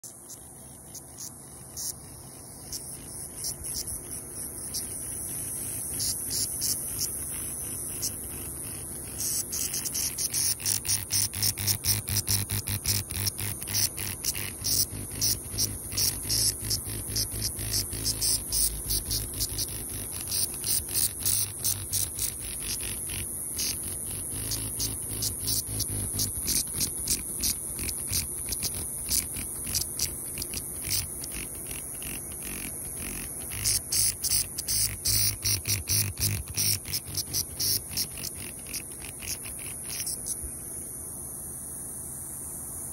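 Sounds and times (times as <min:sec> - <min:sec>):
cicadas buzzing: 0:00.0 - 0:42.9
rapidly pulsing cicada buzz: 0:00.0 - 0:42.9.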